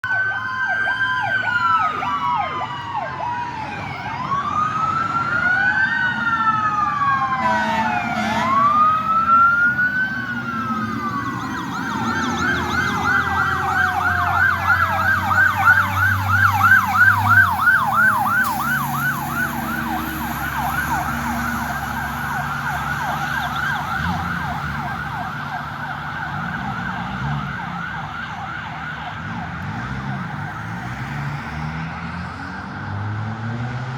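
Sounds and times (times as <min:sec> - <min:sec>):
fire engine sirens wailing: 0:00.0 - 0:33.9.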